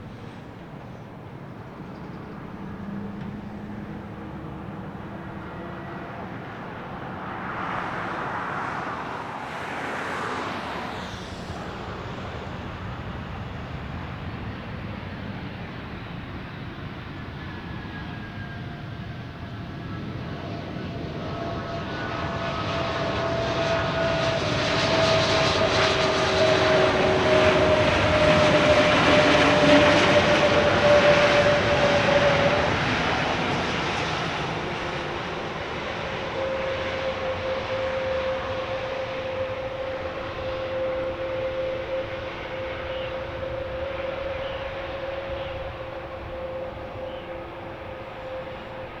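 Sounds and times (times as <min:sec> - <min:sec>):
jet airliner passing by: 0:00.0 - 0:49.0.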